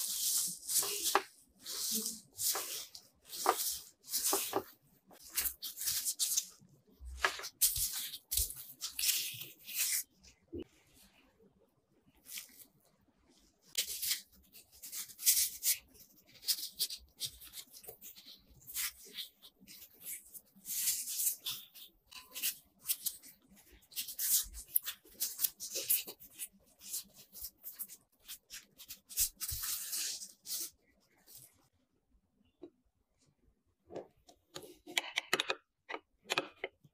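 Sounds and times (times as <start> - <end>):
plastic gloves and dough rustling: 0.0 - 31.7.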